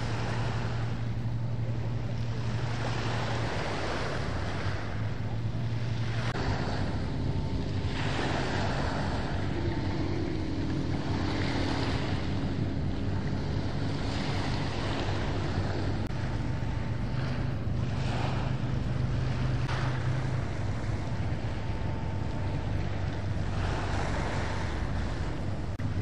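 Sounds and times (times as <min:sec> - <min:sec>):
boat engine humming: 0:00.0 - 0:26.0
water sound: 0:00.0 - 0:26.0
wind noise on microphone: 0:00.0 - 0:26.0.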